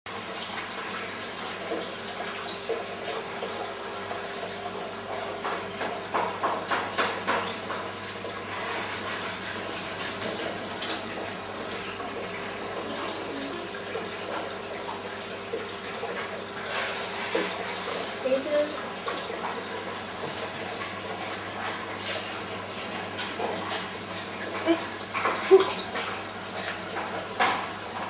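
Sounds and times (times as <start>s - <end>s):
aquarium water bubbling: 0.1s - 28.0s.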